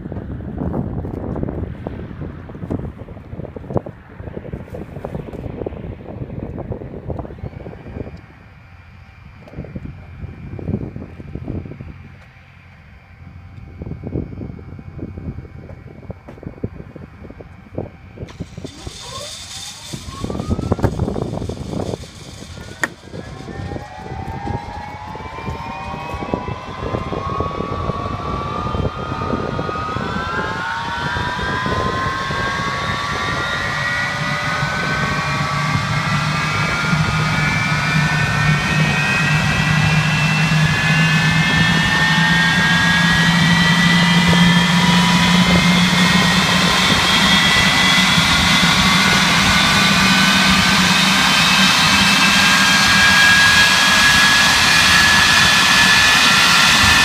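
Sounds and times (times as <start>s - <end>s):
low steady hum: 0.0s - 50.4s
jet engine whine rising: 0.0s - 57.0s.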